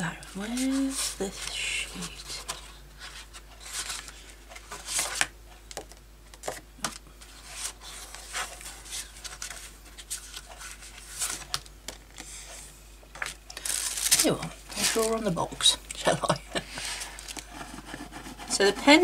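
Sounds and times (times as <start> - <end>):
paper and card rustling: 0.2 - 15.7, 16.7 - 19.0.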